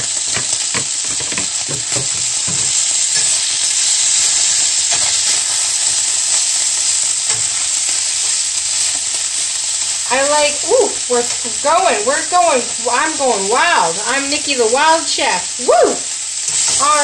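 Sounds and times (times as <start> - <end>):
frying pan sizzling: 0.0 - 17.0.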